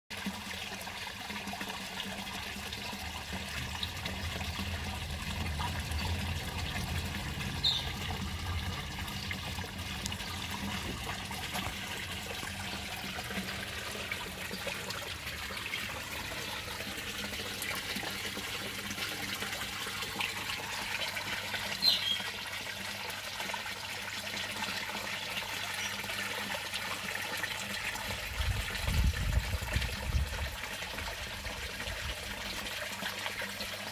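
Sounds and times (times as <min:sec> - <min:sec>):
water splashing into pond: 0:00.1 - 0:33.9.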